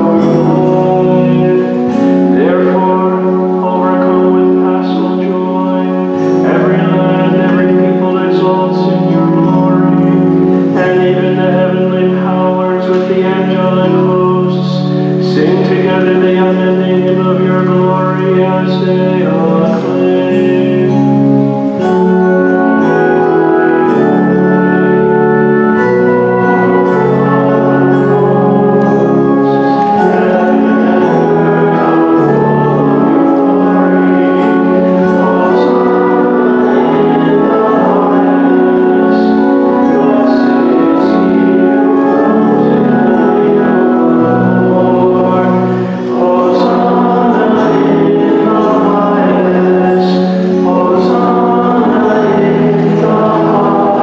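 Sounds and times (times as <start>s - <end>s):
church choir singing: 0.0s - 54.0s
held instrumental chords: 0.0s - 54.0s.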